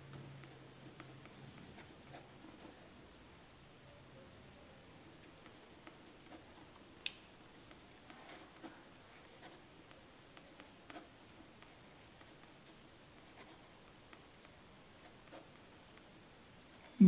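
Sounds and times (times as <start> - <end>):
pen scratching on paper: 0.1 - 3.2, 5.4 - 16.2.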